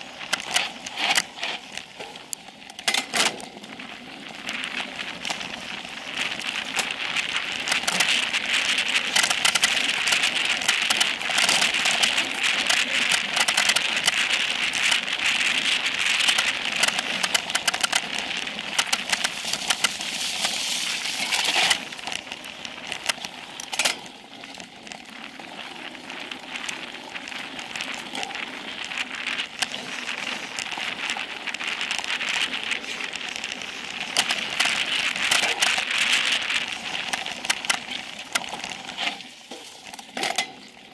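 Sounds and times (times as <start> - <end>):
bike rattling clicks: 0.0 - 40.9
tyres crunching over gravel: 0.0 - 40.9.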